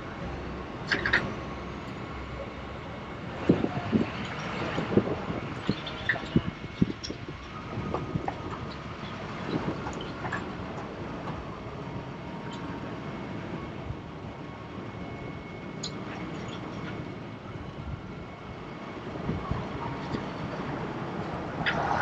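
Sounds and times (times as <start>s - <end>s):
heavy vehicle rumbling: 0.0s - 22.0s.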